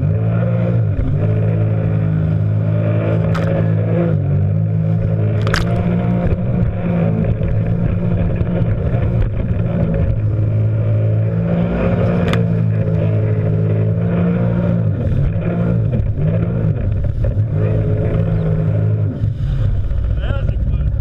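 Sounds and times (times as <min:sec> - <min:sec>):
jet ski engine drone: 0:00.0 - 0:21.0.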